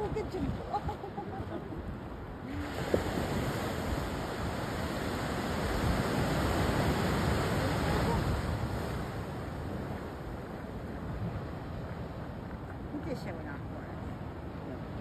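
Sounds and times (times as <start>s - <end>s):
ocean waves washing ashore: 0.0s - 15.0s.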